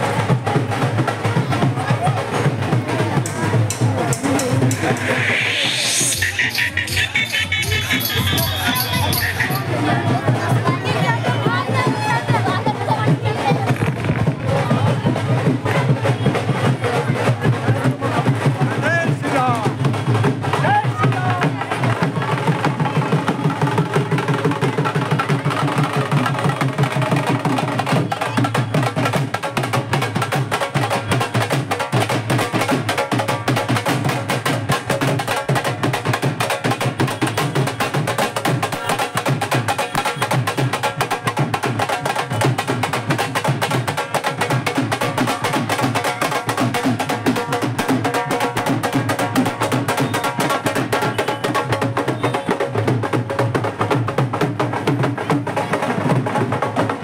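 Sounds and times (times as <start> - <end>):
drums playing fast rhythm: 0.0 - 57.0.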